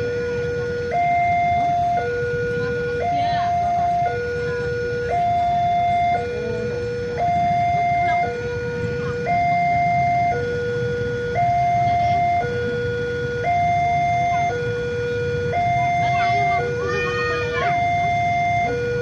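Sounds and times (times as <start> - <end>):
level crossing alarm two-tone: 0.0 - 19.0.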